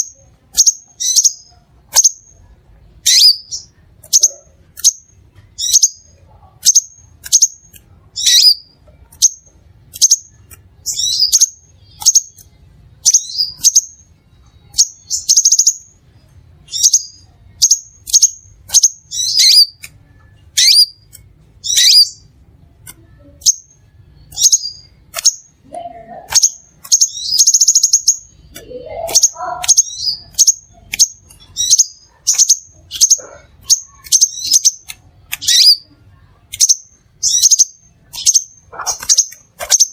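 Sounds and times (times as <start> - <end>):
buzzy bird trill: 0.0 - 16.0, 16.6 - 22.4, 23.1 - 39.9
bird chirping: 0.0 - 22.4, 23.4 - 39.9.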